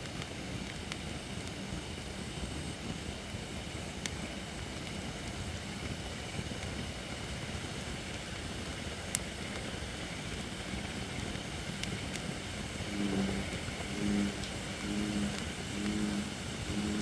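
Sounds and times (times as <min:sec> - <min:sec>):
campfire burning: 0:00.0 - 0:17.0.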